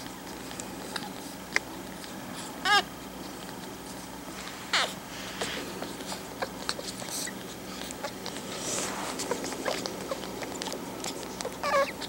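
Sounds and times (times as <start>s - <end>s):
puppies suckling: 0.0s - 12.0s.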